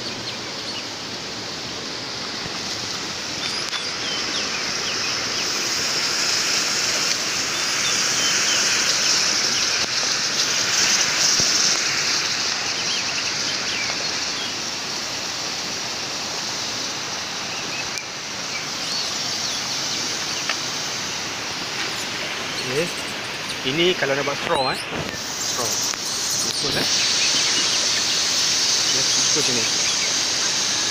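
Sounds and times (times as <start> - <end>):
high-pitched forest hiss: 0.0 - 30.9.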